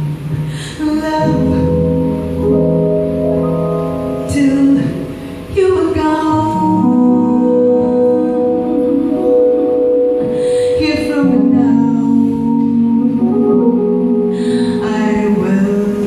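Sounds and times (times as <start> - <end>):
woman singing into microphone: 0.0 - 2.6, 4.1 - 16.0
double bass: 0.0 - 16.0
keyboard: 0.0 - 16.0.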